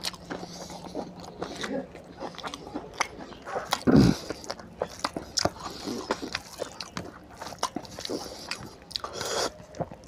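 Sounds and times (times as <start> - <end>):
wet chewing and lip-smacking: 0.0 - 10.0.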